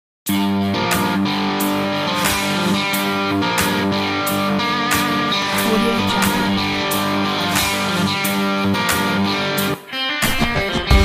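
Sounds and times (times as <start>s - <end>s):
guitar-led intro music: 0.3s - 11.0s.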